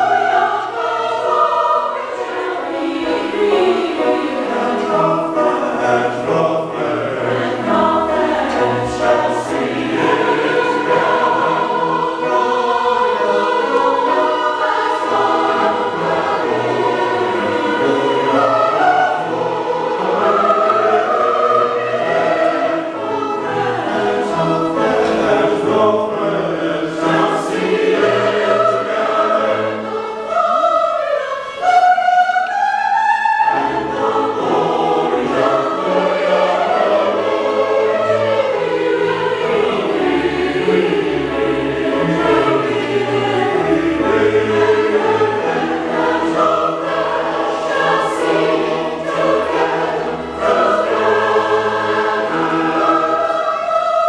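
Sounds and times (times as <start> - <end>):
mixed choir singing: 0.0 - 54.0
small orchestra: 0.0 - 54.0.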